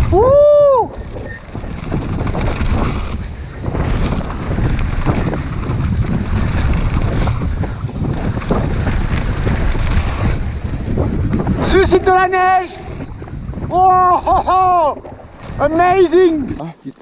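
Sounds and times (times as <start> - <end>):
mountain bike rolling on snow: 0.0 - 17.0
wind buffeting microphone: 0.0 - 17.0
bike knocks and rattles: 0.9 - 16.6.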